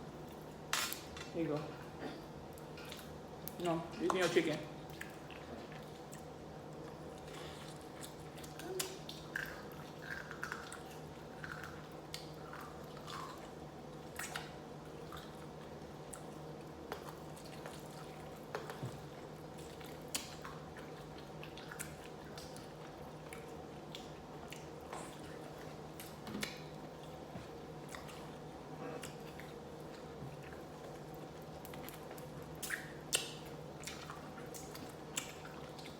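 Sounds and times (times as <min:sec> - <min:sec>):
person chewing food: 0:04.9 - 0:35.9.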